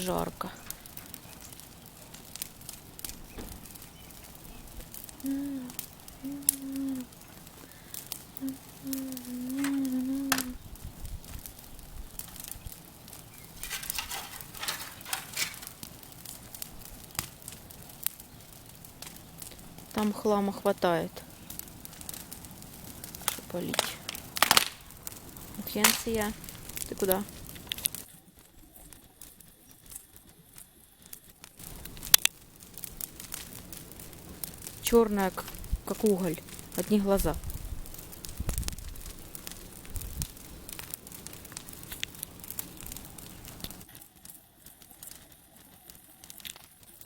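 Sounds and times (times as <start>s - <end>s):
bonfire crackling and popping: 0.0s - 47.0s
rush of fire noise: 0.0s - 47.0s.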